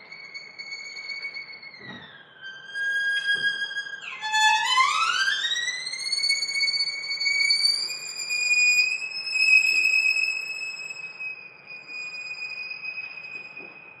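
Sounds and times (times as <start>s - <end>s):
solo violin high bowed note: 0.0s - 14.0s.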